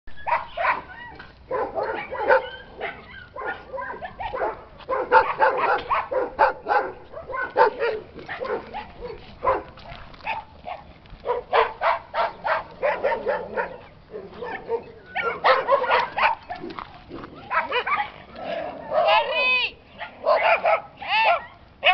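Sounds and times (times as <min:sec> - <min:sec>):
dogs barking: 0:00.2 - 0:19.4, 0:20.0 - 0:21.9.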